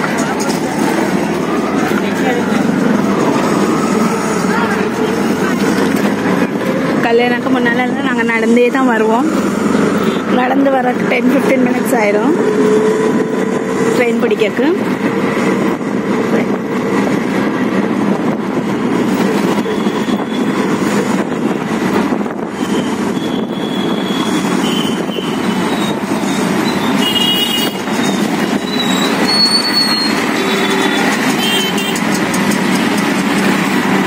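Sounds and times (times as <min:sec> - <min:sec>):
auto-rickshaw engine and road noise: 0:00.0 - 0:34.0.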